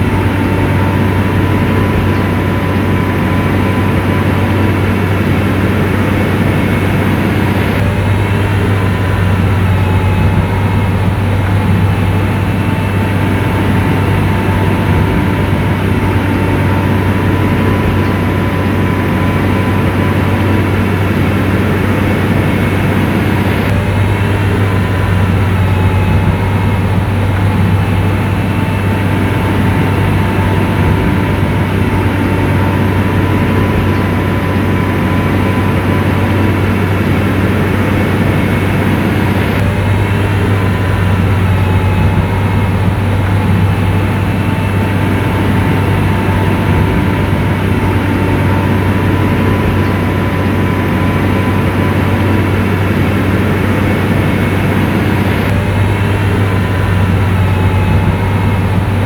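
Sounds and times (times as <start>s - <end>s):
diesel engine droning under load: 0.0s - 59.0s
faint steady whine: 0.0s - 59.0s.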